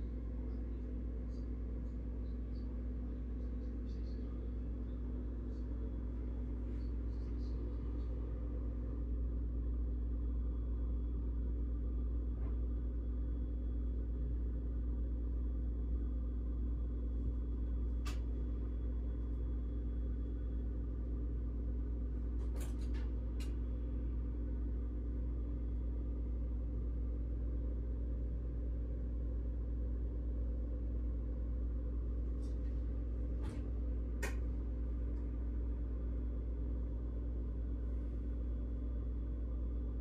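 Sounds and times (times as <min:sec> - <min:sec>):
constant hum: 0:00.0 - 0:40.0.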